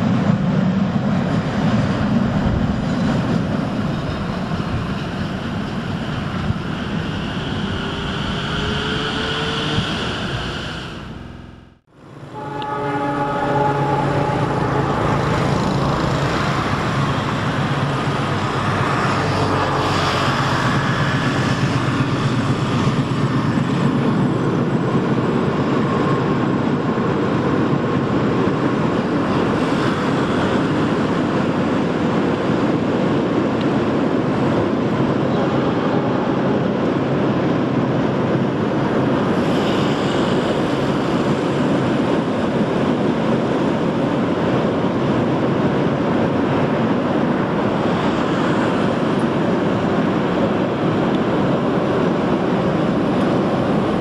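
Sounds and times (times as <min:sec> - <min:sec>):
train rumbling over bridge: 0:00.0 - 0:54.0.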